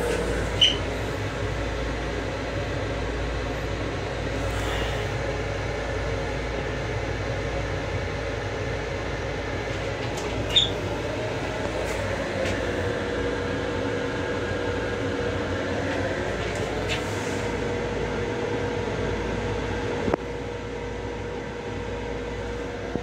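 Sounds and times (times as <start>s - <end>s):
railcar rumble and hum: 0.0s - 23.0s.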